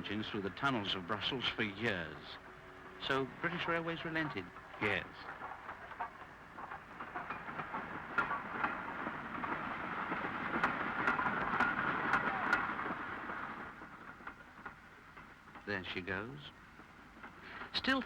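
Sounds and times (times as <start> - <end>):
train rolling past: 0.0 - 18.0.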